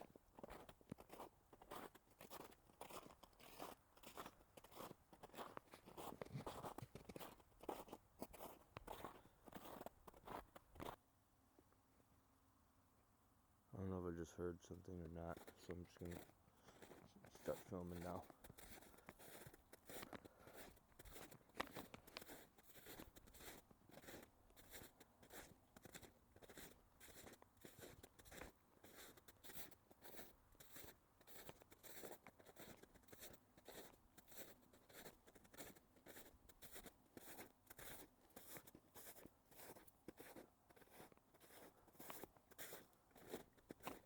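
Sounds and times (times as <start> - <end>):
footsteps crunching in snow: 0.0 - 11.0, 15.3 - 44.0.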